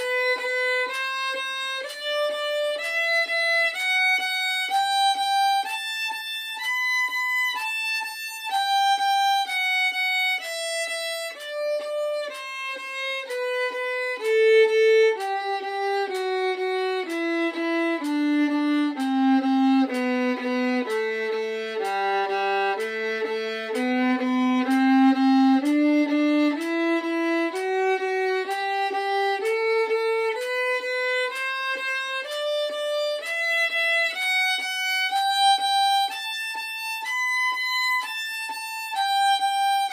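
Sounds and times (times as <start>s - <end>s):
solo violin tremolo scale: 0.0s - 39.9s.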